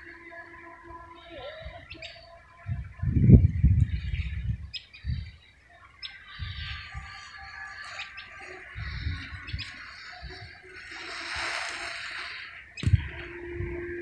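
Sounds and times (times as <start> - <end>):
small birds chirping: 0.0 - 13.1
wind buffeting microphone: 1.6 - 5.4, 6.2 - 14.0.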